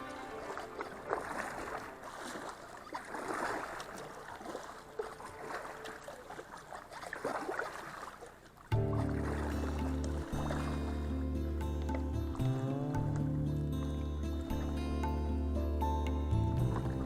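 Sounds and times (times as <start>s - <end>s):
paddle splashing in water: 0.0s - 15.3s, 16.3s - 17.0s.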